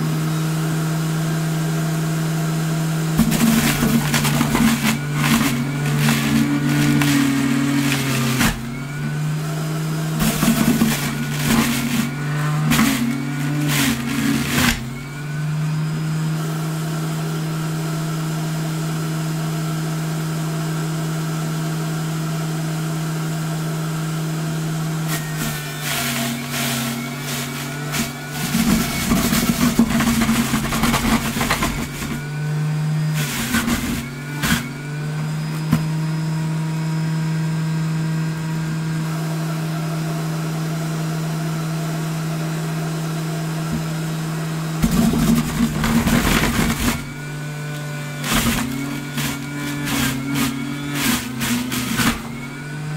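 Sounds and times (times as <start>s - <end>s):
juicer grinding vegetables: 0.0s - 52.9s
juicer motor hum: 0.0s - 52.9s.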